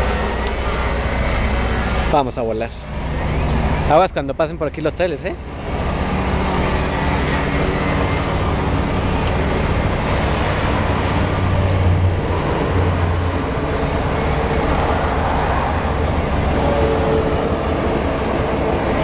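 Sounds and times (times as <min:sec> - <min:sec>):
heavy trucks passing: 0:00.0 - 0:19.0.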